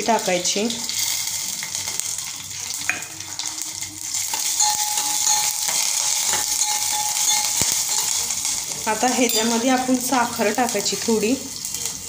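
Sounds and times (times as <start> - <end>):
chillies sizzling in hot oil: 0.0 - 12.0.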